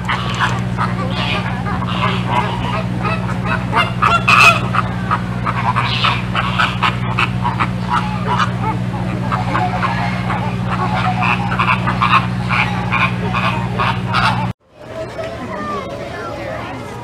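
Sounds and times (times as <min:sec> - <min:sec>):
low hum: 0:00.0 - 0:14.6
flock of birds calling: 0:00.0 - 0:17.0.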